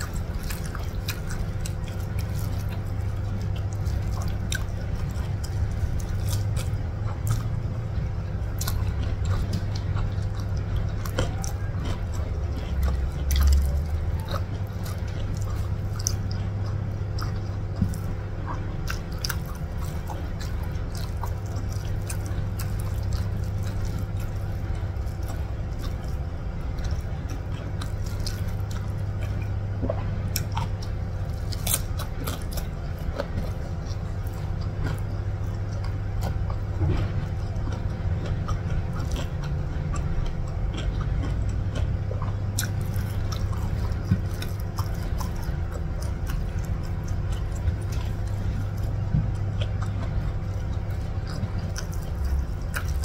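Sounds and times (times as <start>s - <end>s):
chewing with wet smacks: 0.0s - 53.0s
steady low hum: 0.0s - 53.0s.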